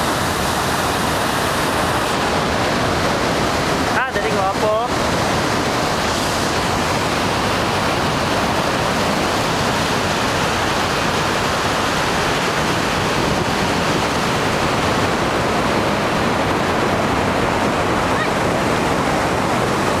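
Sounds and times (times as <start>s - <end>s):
waterfall rushing water: 0.0s - 20.0s.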